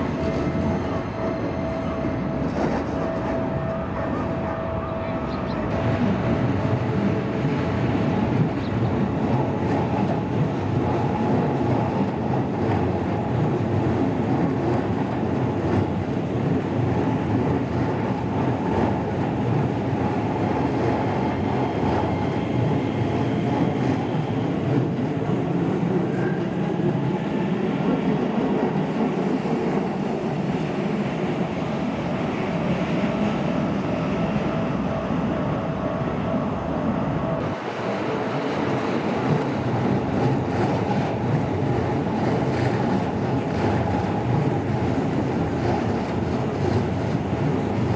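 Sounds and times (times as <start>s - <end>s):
train rumbling: 0.0s - 47.9s.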